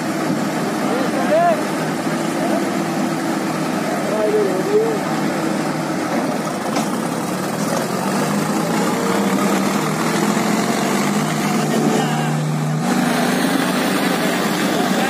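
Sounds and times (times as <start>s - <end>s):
tractor diesel engines straining: 0.0s - 15.0s.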